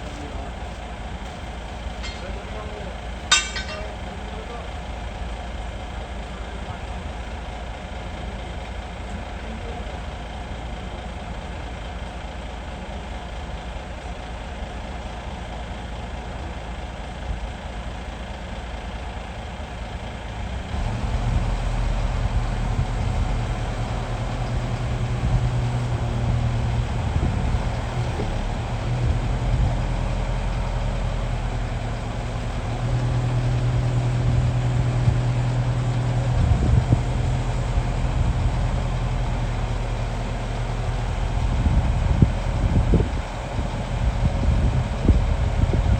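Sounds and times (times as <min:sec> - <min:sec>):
diesel excavator engine running: 0:00.0 - 0:45.9.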